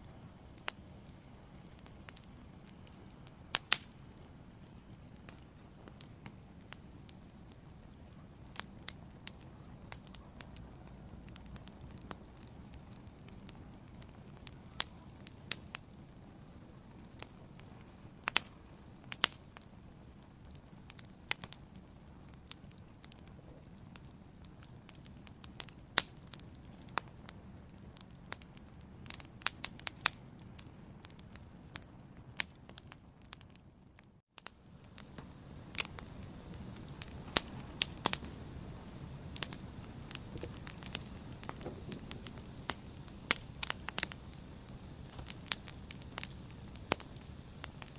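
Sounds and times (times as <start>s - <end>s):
fire crackling and popping: 0.0s - 47.9s
low rush of flames: 0.0s - 47.9s.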